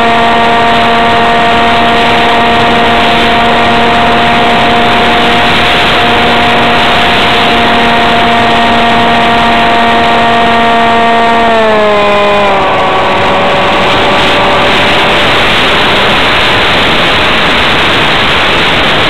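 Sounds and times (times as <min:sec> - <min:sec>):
electric motor propeller whine: 0:00.0 - 0:19.0
wind rush: 0:00.0 - 0:19.0.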